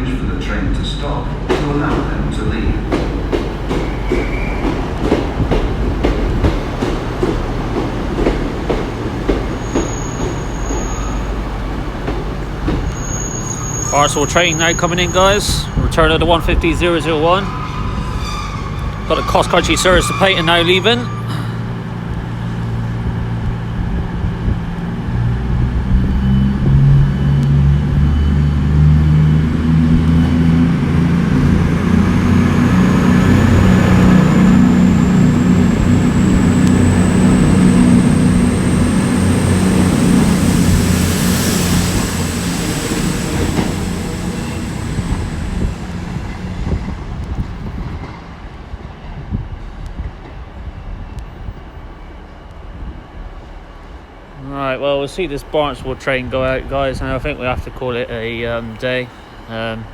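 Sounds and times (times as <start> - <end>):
diesel train accelerating: 0.0 - 59.9
high whine of train: 0.0 - 59.9.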